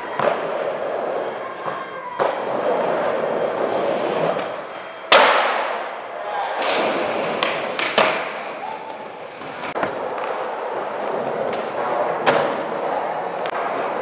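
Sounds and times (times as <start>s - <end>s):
skateboard clacks: 0.0s - 14.0s
skateboard wheels rolling: 0.0s - 14.0s.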